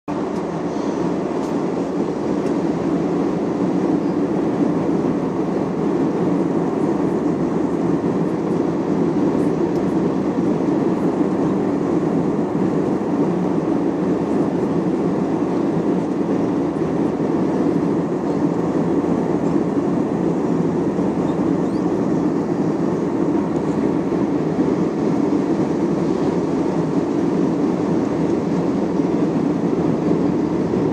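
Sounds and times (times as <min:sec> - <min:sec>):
jet airliner cabin rumble: 0:00.1 - 0:30.9.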